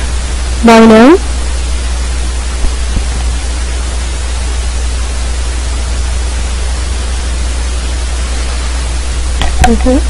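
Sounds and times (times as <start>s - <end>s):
low electrical hum: 0.0s - 10.0s
microphone hiss: 0.0s - 10.0s.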